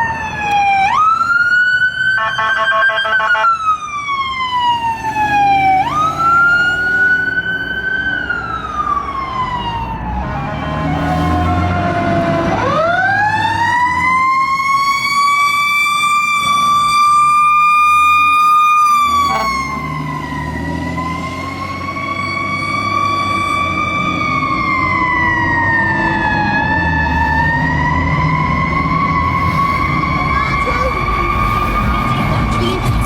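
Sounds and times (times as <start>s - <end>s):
fire engine siren wailing: 0.0s - 33.0s
low rumble of passing vehicle: 3.8s - 33.0s.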